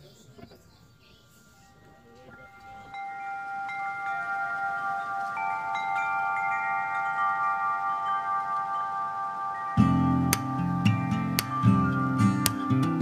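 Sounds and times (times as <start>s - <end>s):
wind-chime-like tones: 0.0s - 13.0s.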